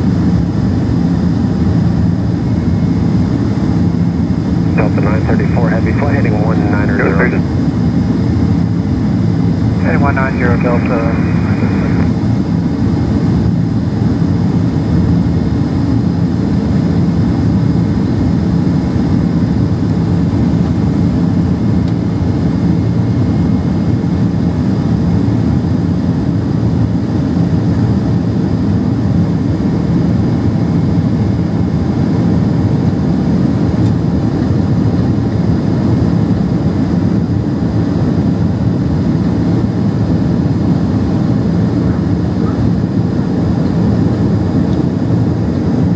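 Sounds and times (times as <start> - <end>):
jet engine roar inside cabin: 0.0 - 45.9.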